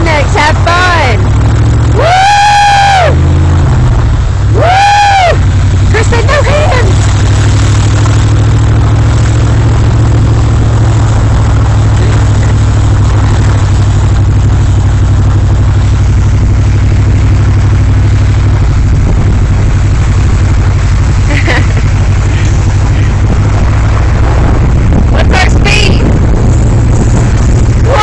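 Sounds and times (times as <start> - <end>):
road noise: 0.0 - 28.0
truck engine drone: 0.0 - 28.0.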